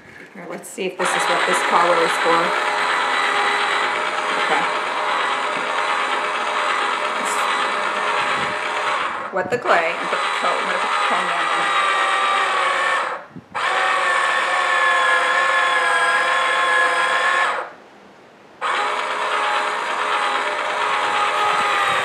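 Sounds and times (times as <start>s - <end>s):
small electric motor whine: 1.0s - 17.8s, 18.6s - 22.0s.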